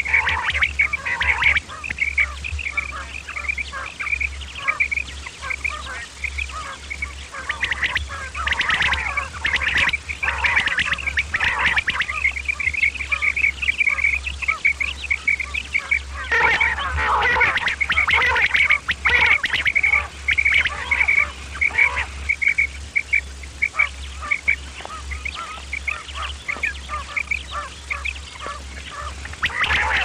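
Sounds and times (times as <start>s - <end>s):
quail calling: 0.0s - 30.0s
steady low hum: 0.0s - 30.0s.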